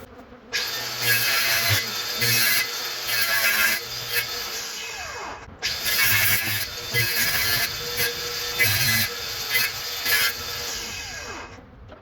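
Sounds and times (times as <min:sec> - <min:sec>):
saw cutting wall panel: 0:00.0 - 0:11.6.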